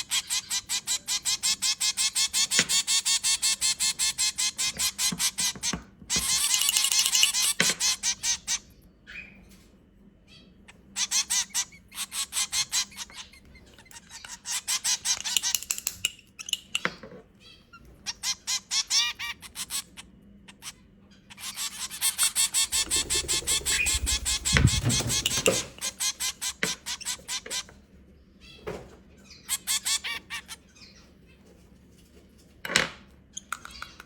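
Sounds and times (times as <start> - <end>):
baby birds chirping: 0.0 - 9.4, 10.3 - 16.8, 17.4 - 27.7, 29.3 - 31.2.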